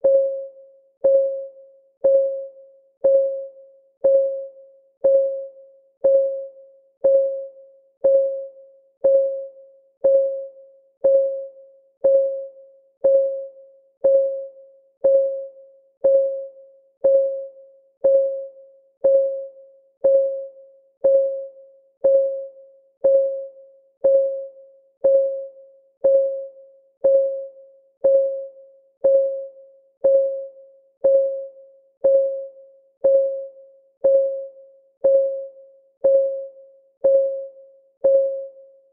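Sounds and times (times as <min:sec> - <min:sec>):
timer clock ticking: 0:03.0 - 0:38.6.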